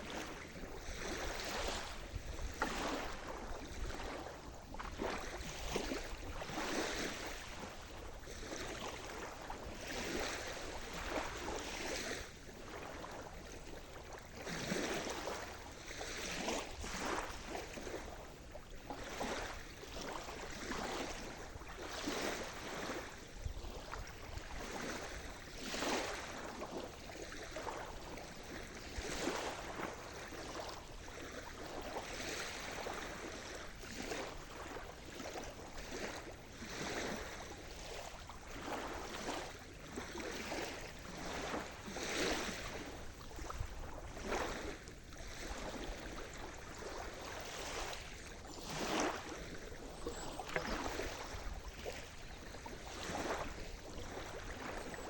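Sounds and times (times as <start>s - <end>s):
sea waves washing onto shore: 0.0s - 55.0s.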